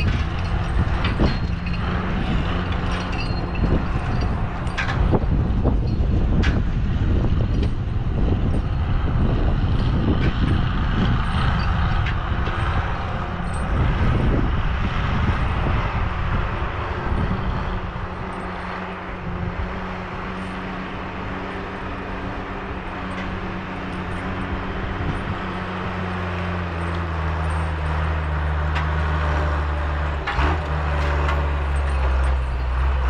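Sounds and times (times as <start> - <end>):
clanking and knocking: 0.0 - 8.7, 9.6 - 33.0
heavy diesel machine running: 0.0 - 33.0.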